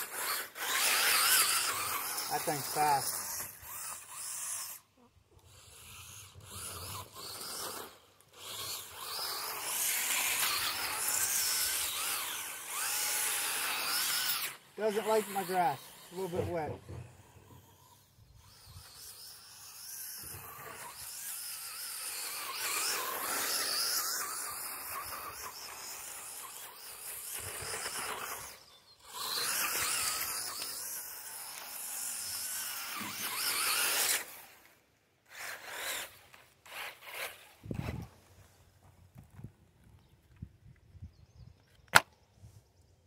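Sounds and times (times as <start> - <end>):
electric motor whining: 0.0 - 34.7.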